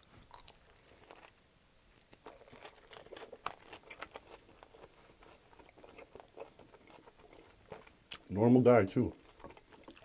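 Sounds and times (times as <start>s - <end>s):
chewing crusty bread: 0.0s - 8.4s, 9.1s - 10.0s.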